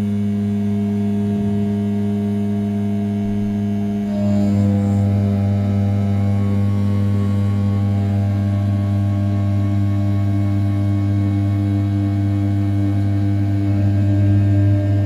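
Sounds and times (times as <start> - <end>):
milling spindle humming: 0.5 - 15.0.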